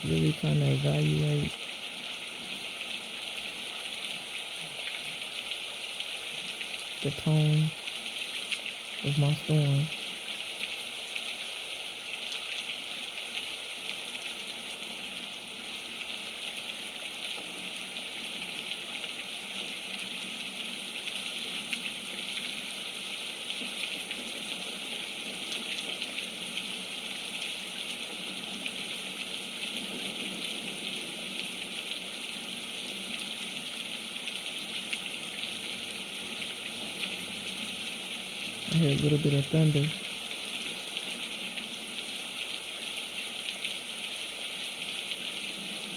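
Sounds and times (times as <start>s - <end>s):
patter of raindrops: 0.0s - 45.9s
steady rain hiss: 0.0s - 45.9s.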